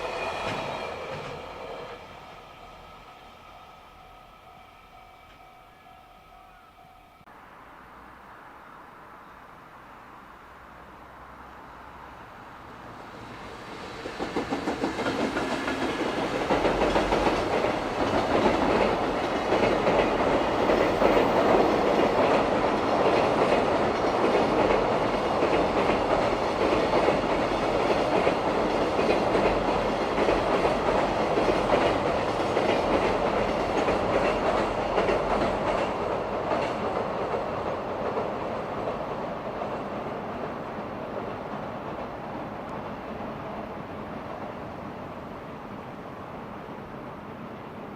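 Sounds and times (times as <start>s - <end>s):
freight train wheels rumbling on rails: 0.0s - 4.4s, 12.6s - 47.9s.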